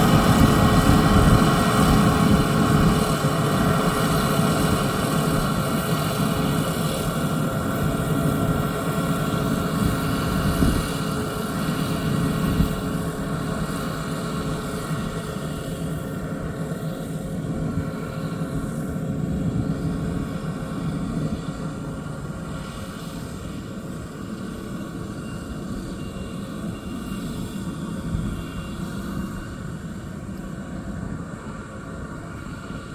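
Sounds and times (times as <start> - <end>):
combine harvester engine drone: 0.0 - 32.9.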